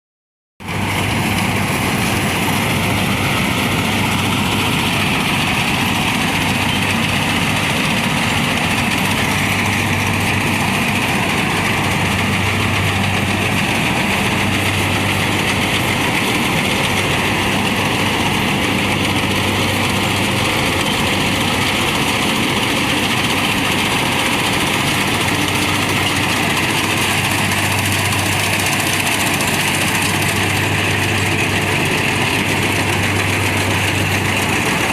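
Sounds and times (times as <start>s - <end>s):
combine harvester engine droning: 0.6s - 34.9s.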